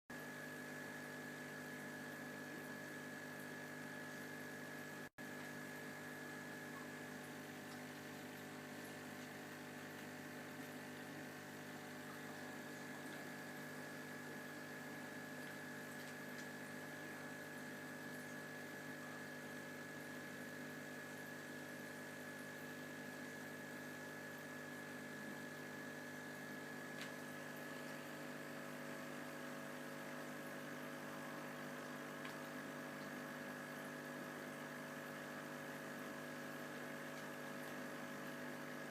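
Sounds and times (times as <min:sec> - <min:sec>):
low electrical hum: 0:00.1 - 0:38.9.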